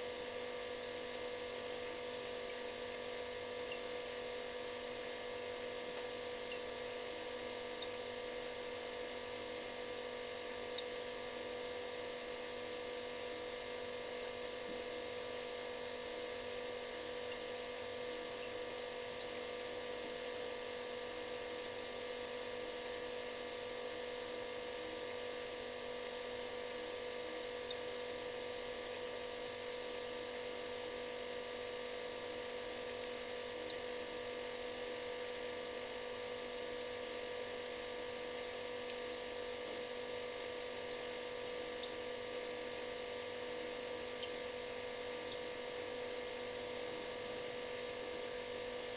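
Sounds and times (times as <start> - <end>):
refrigerator electric buzz: 0.0 - 48.9.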